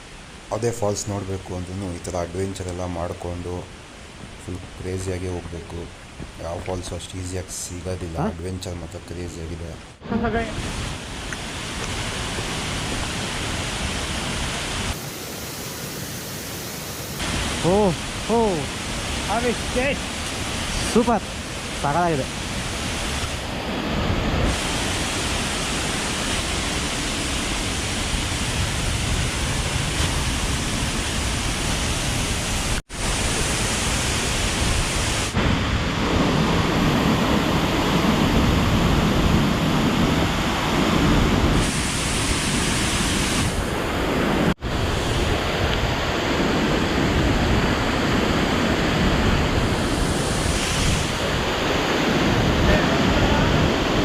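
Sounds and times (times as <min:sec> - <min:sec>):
waterfall rushing: 0:09.6 - 0:54.0.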